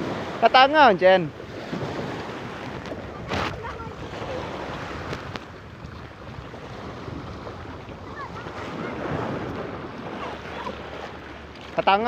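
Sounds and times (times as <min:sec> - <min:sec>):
sea surf washing: 0:00.0 - 0:12.0
wind buffeting microphone: 0:01.3 - 0:11.8.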